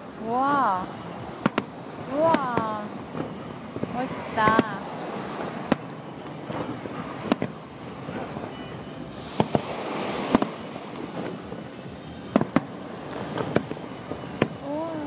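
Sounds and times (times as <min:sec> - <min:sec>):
firework hiss: 0:00.0 - 0:15.0
firework shells bursting: 0:00.8 - 0:15.0.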